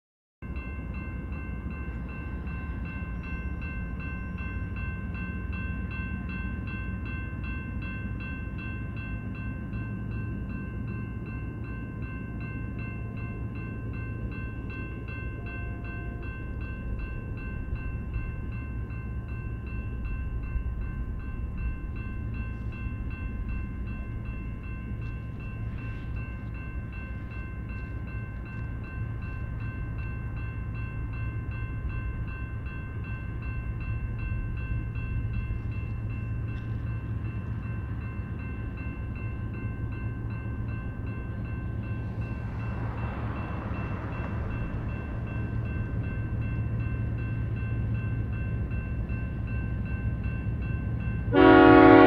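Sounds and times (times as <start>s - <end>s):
freight train rumble: 0.4s - 52.0s.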